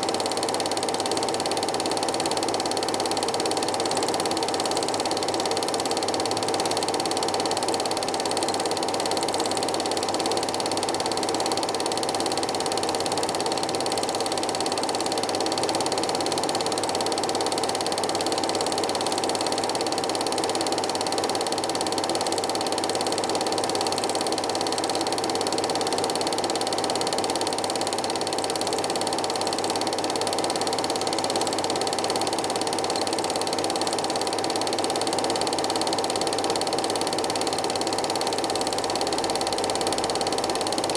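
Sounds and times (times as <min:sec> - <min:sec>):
film projector running: 0:00.0 - 0:40.9.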